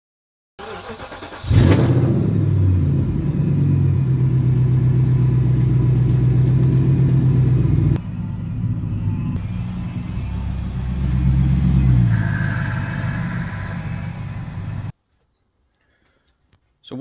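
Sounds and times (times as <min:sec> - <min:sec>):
car engine starting and idling: 0:00.6 - 0:14.9.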